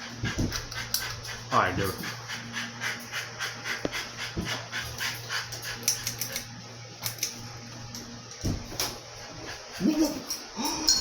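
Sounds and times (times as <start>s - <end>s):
ceiling fan motor hum: 0.0s - 11.0s
rhythmic clicking of fan: 0.0s - 11.0s.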